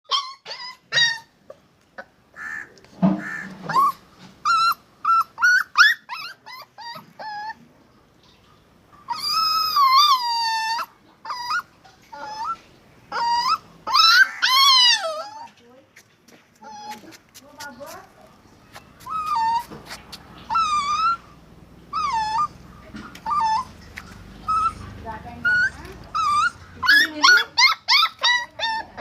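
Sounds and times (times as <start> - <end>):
puppies whimpering and yelping: 0.1 - 7.7, 9.0 - 15.6, 16.5 - 18.0, 18.7 - 29.0.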